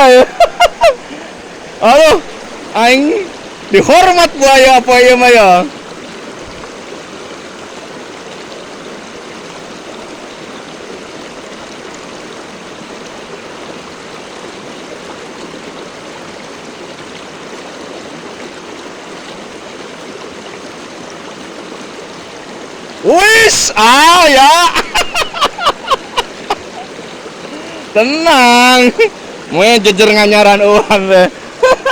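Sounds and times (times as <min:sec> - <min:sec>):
flowing stream water: 0:00.0 - 0:31.9.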